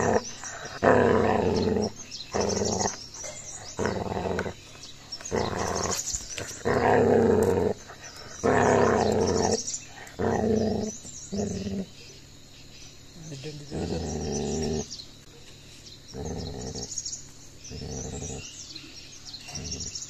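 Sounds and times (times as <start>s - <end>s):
puppy growling: 0.0s - 12.1s, 13.6s - 15.0s, 16.1s - 18.7s, 19.4s - 20.0s.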